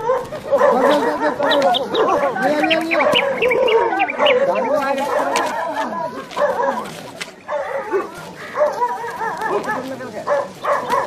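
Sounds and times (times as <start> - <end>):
dogs barking and yelping: 0.0 - 11.0
voices: 0.0 - 11.0.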